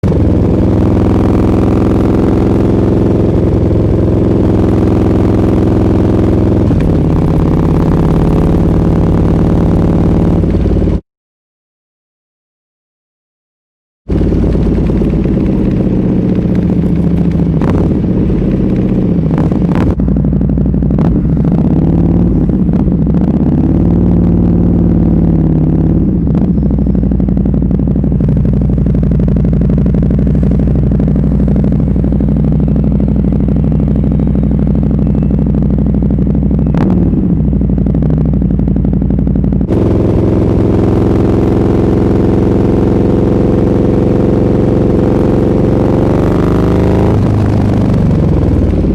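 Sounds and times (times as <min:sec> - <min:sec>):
motorcycle engine running loudly: 0:00.0 - 0:11.0, 0:14.1 - 0:48.9.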